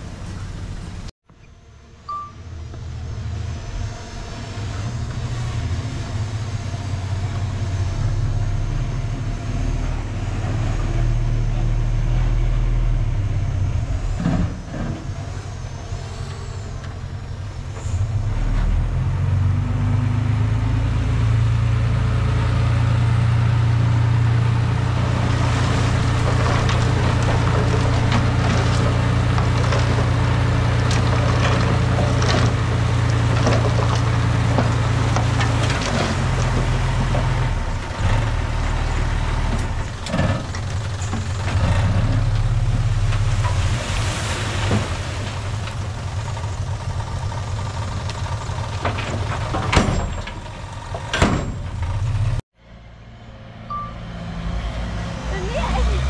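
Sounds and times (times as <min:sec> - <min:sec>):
diesel construction machinery: 0:00.0 - 0:56.0.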